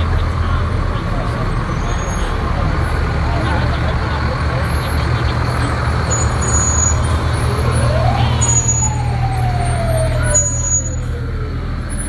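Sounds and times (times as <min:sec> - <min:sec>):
fire truck siren wail: 0:00.0 - 0:12.0
truck engines rumbling: 0:00.0 - 0:12.0.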